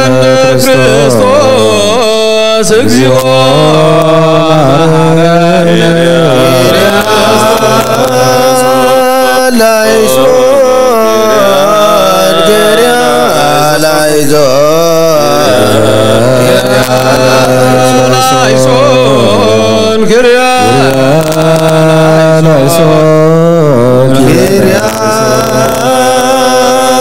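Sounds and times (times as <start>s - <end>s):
men chanting: 0.0s - 27.0s.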